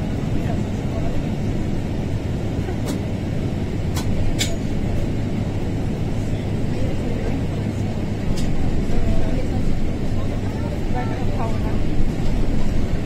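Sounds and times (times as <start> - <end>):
bus engine and tyres rumbling: 0.0 - 13.0.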